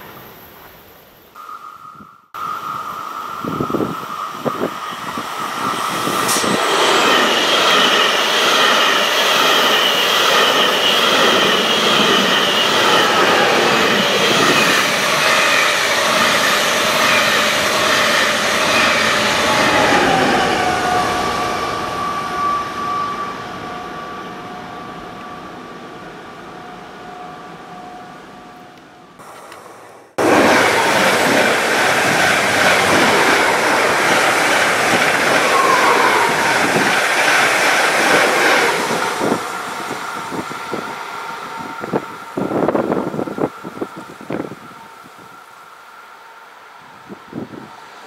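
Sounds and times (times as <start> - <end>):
train passing at speed: 1.4 - 48.0.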